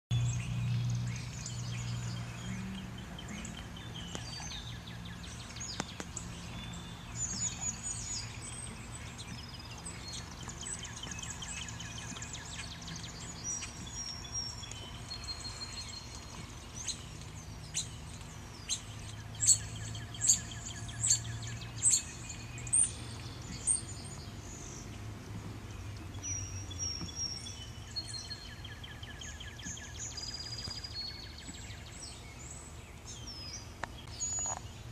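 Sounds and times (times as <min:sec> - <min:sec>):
low steady background rumble: 0:00.1 - 0:34.9
songbirds chirping and trilling: 0:00.1 - 0:34.9.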